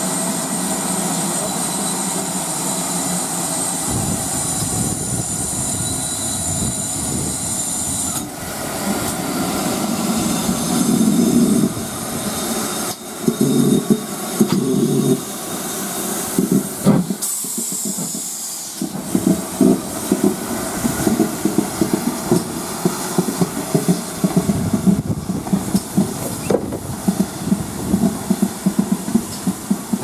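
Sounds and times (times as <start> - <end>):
steam hissing: 0.0 - 30.0
steam locomotive rhythmic beats: 0.0 - 30.0.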